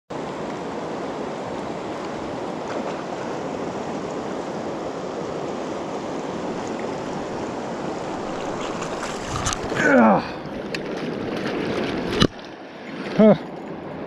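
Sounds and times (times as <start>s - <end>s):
river rushing over rocks: 0.1s - 14.0s.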